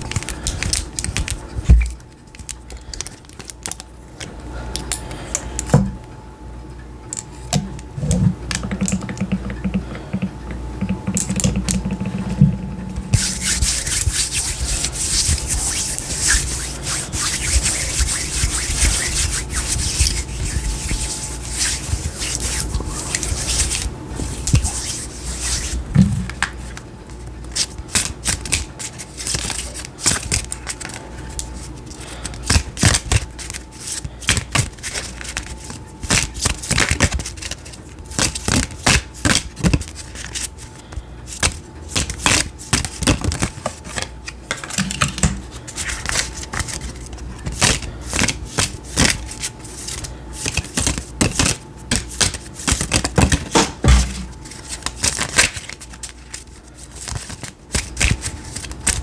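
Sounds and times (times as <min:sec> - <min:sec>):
cards being shuffled: 0:00.0 - 0:03.9, 0:07.6 - 0:59.0.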